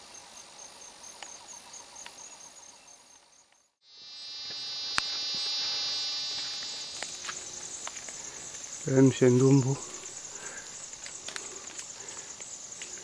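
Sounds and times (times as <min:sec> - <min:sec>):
insects chirping: 0:00.0 - 0:13.0
high-pitched insect buzz: 0:00.6 - 0:13.0.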